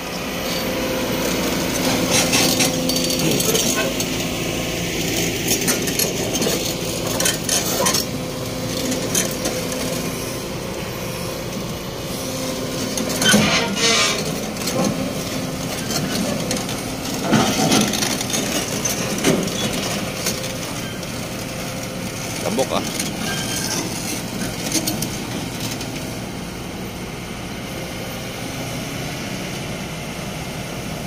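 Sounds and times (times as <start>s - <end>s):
steel tracks clanking on ramp: 0.0s - 10.4s, 11.5s - 26.2s
diesel engine running: 0.0s - 31.0s.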